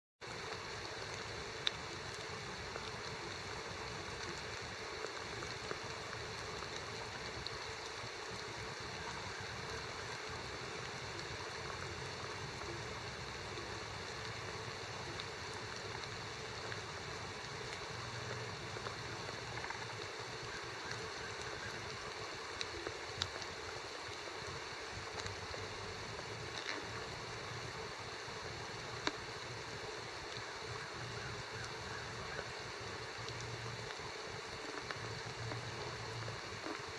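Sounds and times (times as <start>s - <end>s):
faint clicks: 0.4s - 11.9s, 12.6s - 27.8s, 28.8s - 29.5s, 30.1s - 36.9s.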